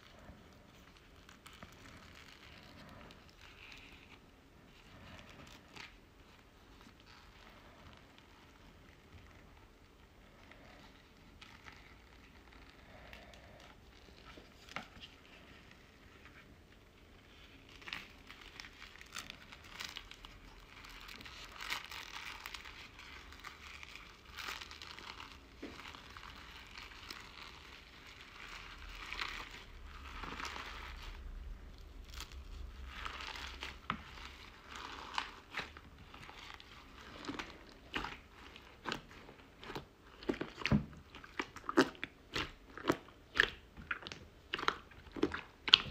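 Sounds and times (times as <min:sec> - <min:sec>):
slime squishing and crackling: 0:00.0 - 0:45.9.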